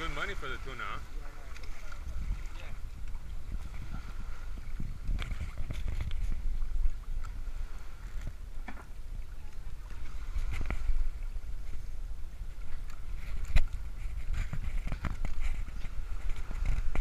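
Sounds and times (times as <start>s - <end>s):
knocks and scrapes in boat: 0.0s - 17.0s
wind rumbling on microphone: 0.0s - 17.0s.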